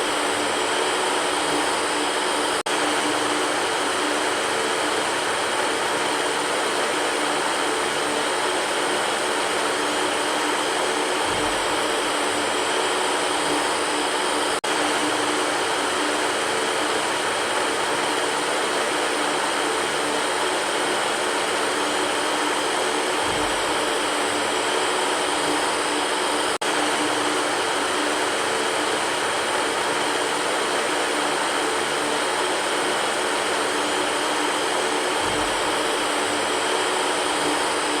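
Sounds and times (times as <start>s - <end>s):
electric fan whooshing: 0.0s - 38.0s.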